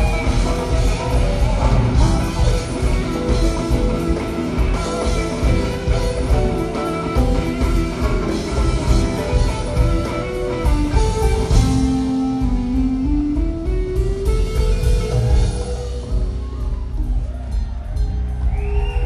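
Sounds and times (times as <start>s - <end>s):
electric guitar melody: 0.0s - 17.8s
bass: 0.0s - 19.0s
drums: 0.0s - 19.0s.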